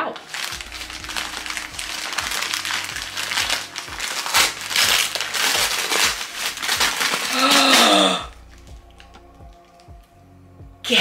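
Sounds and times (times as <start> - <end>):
gift wrapping crinkling: 0.0 - 10.1.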